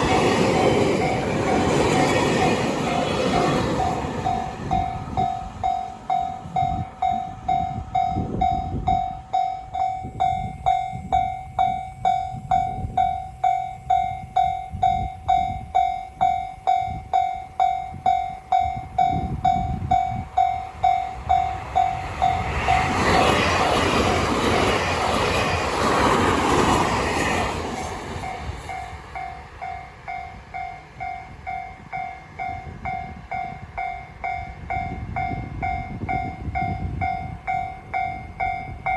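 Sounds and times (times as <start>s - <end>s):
level crossing alarm bell ringing: 0.0s - 23.2s, 28.3s - 38.9s
train passing: 0.0s - 38.9s.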